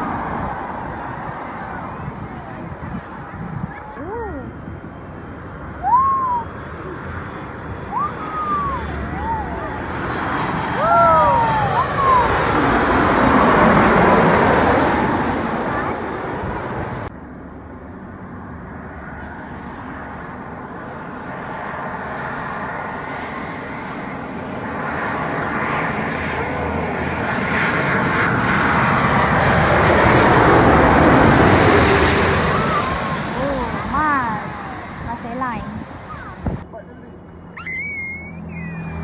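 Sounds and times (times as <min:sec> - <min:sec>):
airliner engine noise: 0:00.0 - 0:39.0.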